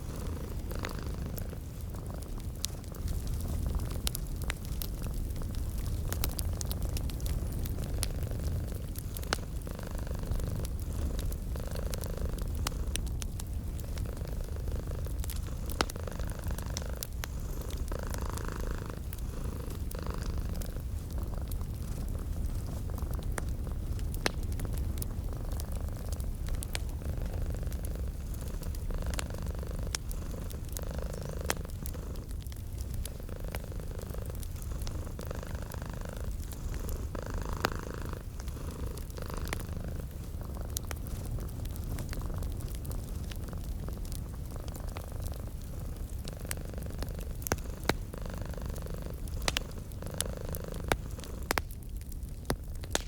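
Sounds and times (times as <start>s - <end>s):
cat purring: 0.0s - 52.2s
wood fire crackling: 0.0s - 53.0s.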